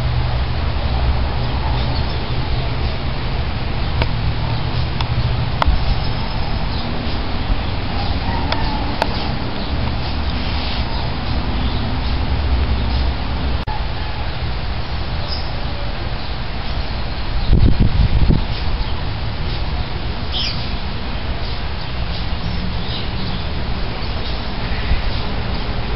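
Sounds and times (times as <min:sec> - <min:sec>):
low outdoor rumble: 0:00.0 - 0:25.9.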